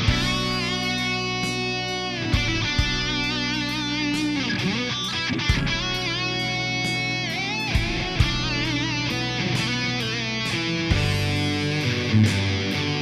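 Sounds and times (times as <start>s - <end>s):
electric guitar lead line: 0.0s - 13.0s.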